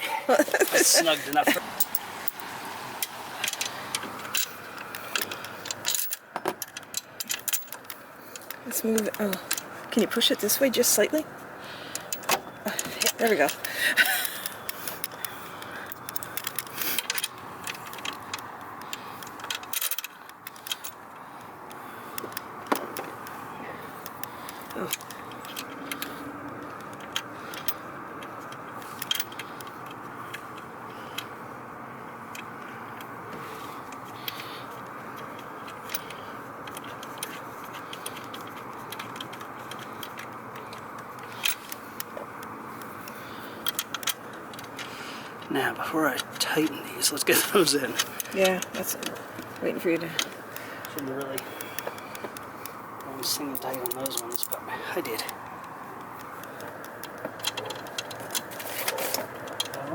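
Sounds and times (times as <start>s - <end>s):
light metallic clicks and clinks: 0.7s - 59.9s.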